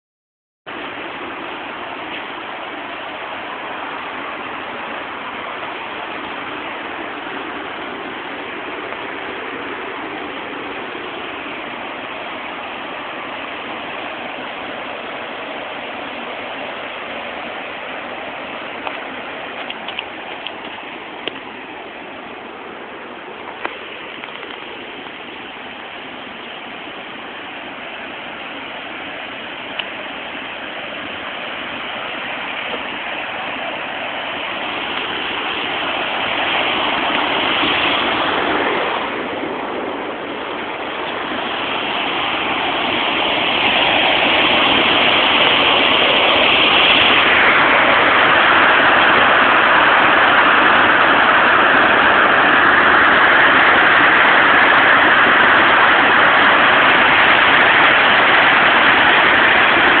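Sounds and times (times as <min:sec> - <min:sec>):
water rushing over dam spillway: 0:00.7 - 1:00.0.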